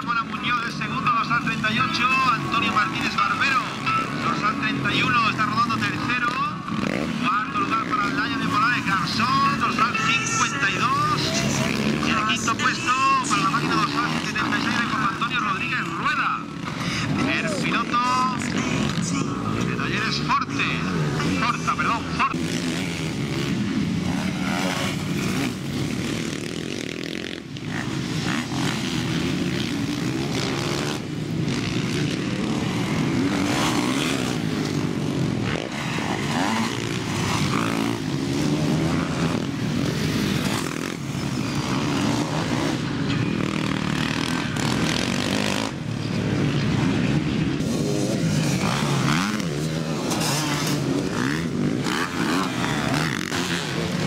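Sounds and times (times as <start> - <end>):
motocross engines revving: 0.0 - 54.0.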